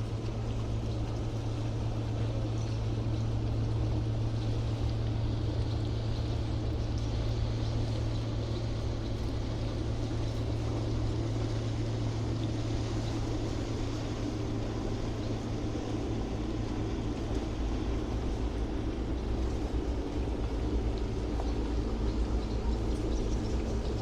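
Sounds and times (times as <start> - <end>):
boat engine drone: 0.0 - 24.0
sea wash: 0.0 - 24.0.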